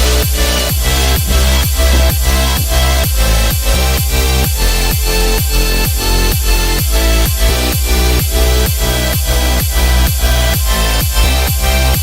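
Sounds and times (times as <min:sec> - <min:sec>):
electronic dance music: 0:00.0 - 0:12.0
heavy kick drum beat: 0:00.0 - 0:12.0.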